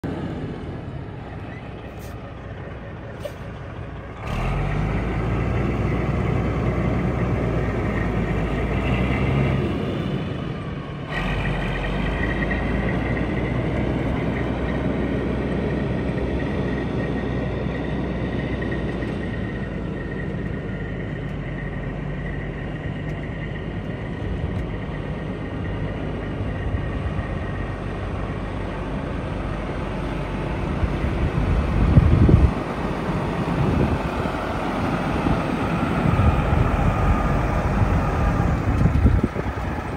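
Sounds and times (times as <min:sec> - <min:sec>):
truck diesel engine: 0:00.0 - 0:39.9.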